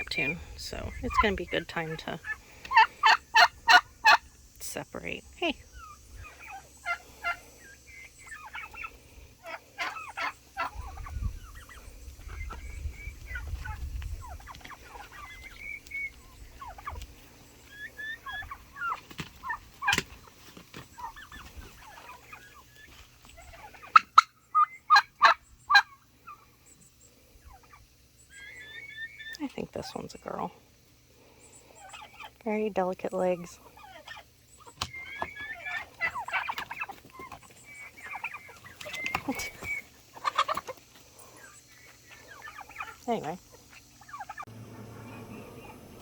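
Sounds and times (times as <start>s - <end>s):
turkeys calling: 0.0s - 46.0s.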